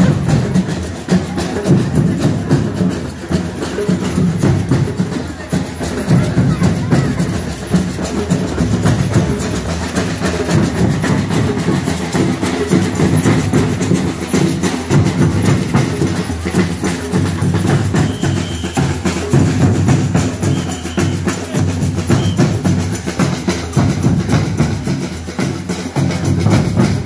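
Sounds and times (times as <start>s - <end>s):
heavy rapid drumming: 0.0s - 27.0s
marching band playing: 0.0s - 27.0s.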